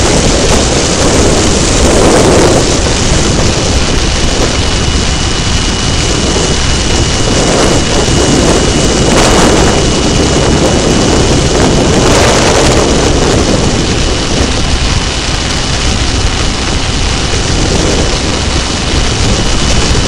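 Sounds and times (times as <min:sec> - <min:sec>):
motorcycle engine: 0:00.0 - 0:20.0
road rumble: 0:00.0 - 0:20.0
wind buffeting microphone: 0:00.0 - 0:20.0.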